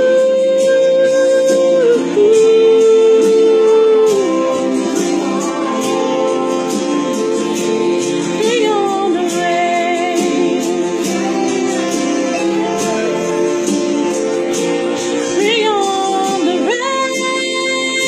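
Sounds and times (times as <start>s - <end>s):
backing track: 0.0s - 18.0s
woman singing country ballad: 0.0s - 18.0s.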